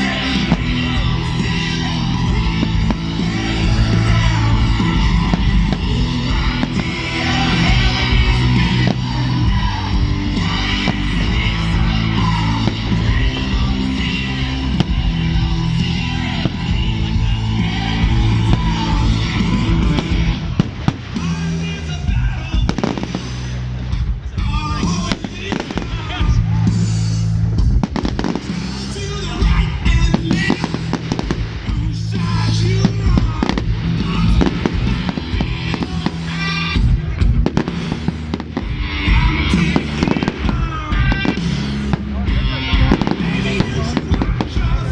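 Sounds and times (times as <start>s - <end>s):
firework bangs: 0.0s - 27.0s, 27.7s - 44.9s
loud rock music with guitar: 0.0s - 44.9s.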